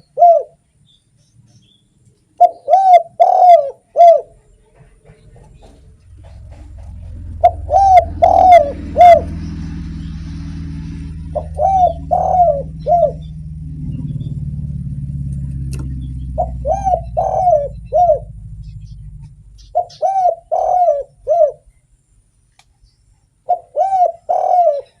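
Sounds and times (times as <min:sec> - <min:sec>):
dove cooing: 0:00.0 - 0:00.6, 0:02.4 - 0:21.8, 0:23.4 - 0:25.0
low steady rumble: 0:00.0 - 0:24.2.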